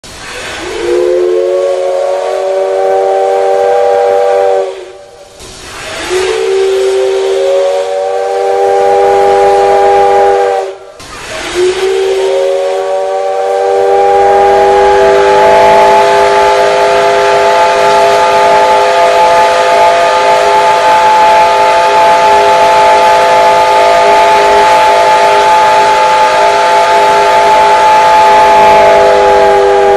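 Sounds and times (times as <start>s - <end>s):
steam hissing: 0.0s - 29.9s
steam locomotive whistle: 0.0s - 29.9s.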